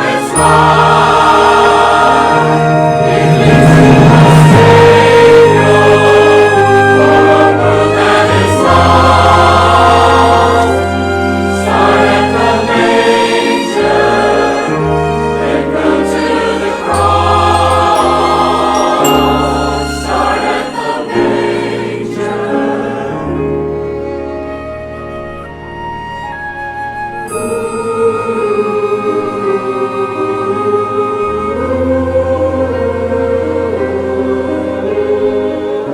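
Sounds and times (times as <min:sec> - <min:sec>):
church choir singing: 0:00.0 - 0:24.6, 0:27.2 - 0:35.9
orchestral accompaniment: 0:00.0 - 0:35.9.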